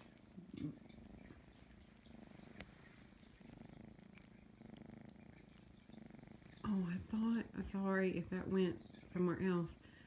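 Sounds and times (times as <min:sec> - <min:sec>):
kitten purring: 0:00.0 - 0:09.9.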